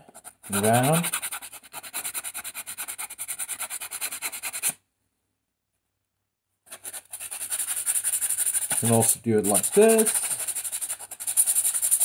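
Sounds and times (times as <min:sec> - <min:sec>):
sandpaper sanding wood: 0:00.2 - 0:04.8, 0:06.7 - 0:12.0.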